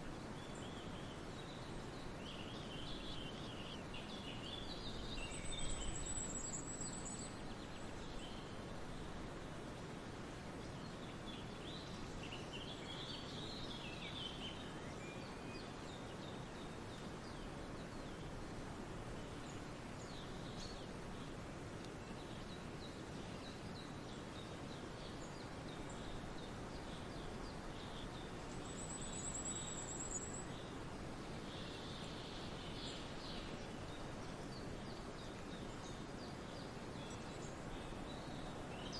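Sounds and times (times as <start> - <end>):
songbird chirps and calls: 0.0 - 9.8, 10.6 - 18.4, 19.0 - 38.9
steady background hiss: 0.0 - 38.9.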